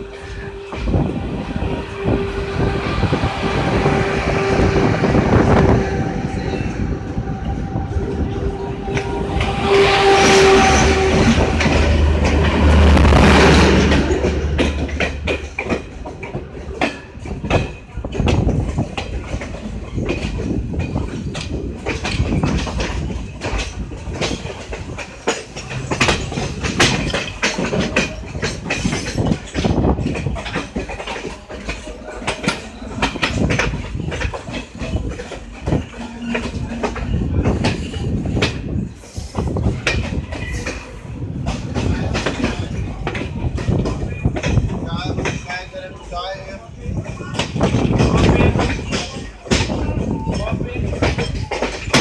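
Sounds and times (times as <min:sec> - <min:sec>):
electric locomotive droning: 0:00.0 - 0:52.0
train wheels clickety-clack: 0:00.0 - 0:52.0.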